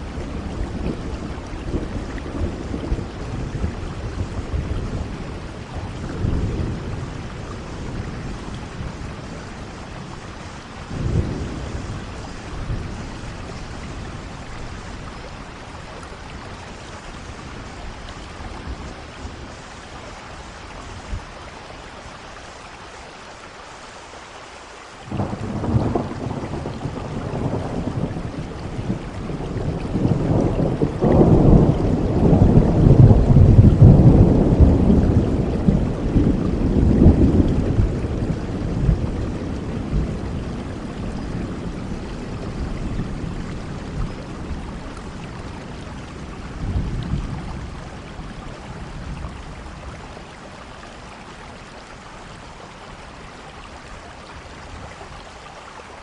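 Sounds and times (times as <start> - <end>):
thunder rumbling: 0.0 - 21.7, 25.1 - 51.1
steady rain: 0.0 - 56.0.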